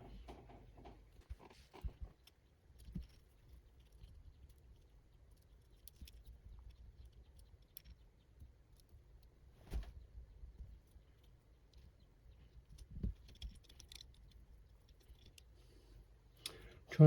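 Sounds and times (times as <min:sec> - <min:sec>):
hands handling small parts: 0:00.0 - 0:09.4, 0:10.5 - 0:16.9.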